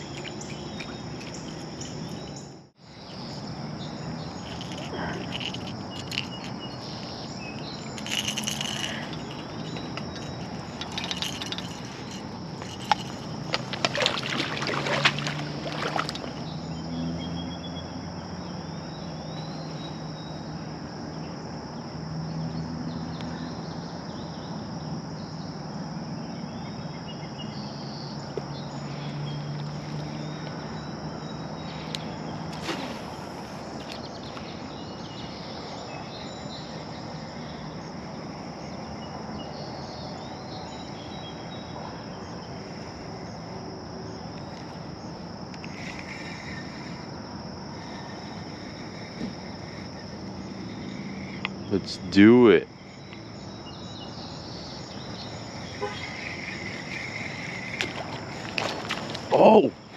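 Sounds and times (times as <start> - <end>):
crickets and insects chirping: 0.0 - 59.9.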